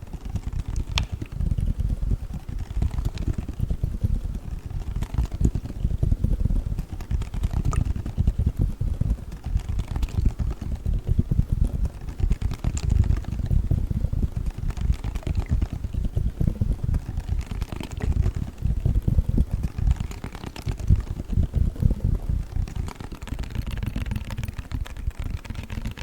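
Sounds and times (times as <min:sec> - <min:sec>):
gel cold pack squishing: 0:00.0 - 0:26.0.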